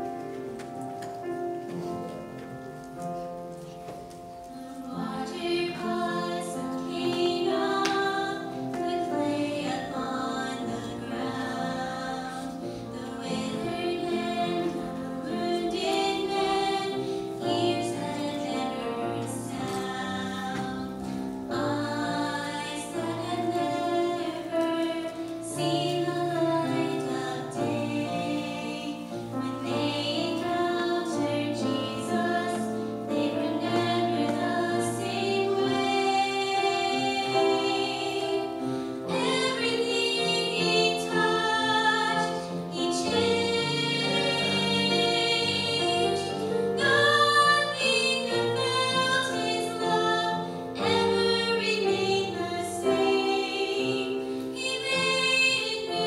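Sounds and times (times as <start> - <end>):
women singing together: 4.7 - 56.0.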